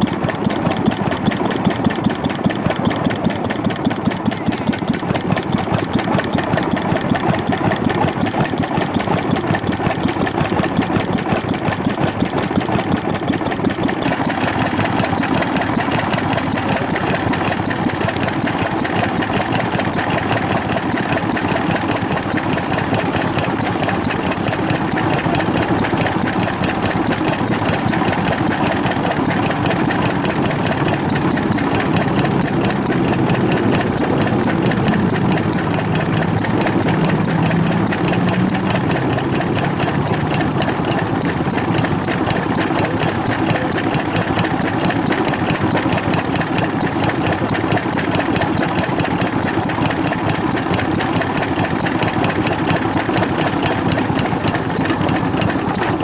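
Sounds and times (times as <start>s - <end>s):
stationary engine running: 0.0s - 56.0s.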